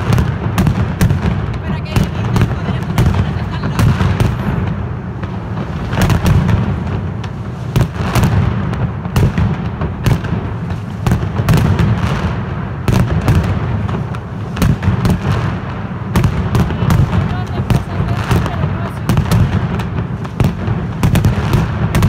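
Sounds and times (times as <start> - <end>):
firecrackers banging: 0.0 - 22.0.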